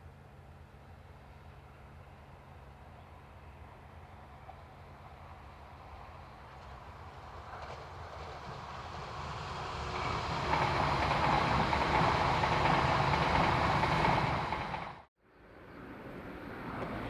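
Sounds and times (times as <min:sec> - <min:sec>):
train passing with wheel noise: 0:00.0 - 0:17.0.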